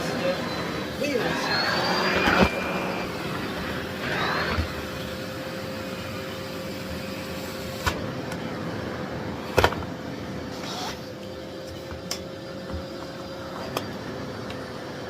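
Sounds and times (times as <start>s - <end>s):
vacuum cleaner whining: 0.0s - 15.0s.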